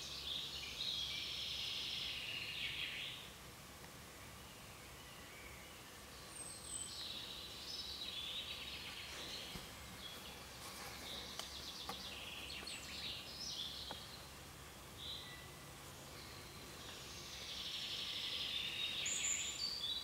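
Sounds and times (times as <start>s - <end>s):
faint steady hiss: 0.0s - 20.0s
songbirds singing: 0.0s - 20.0s.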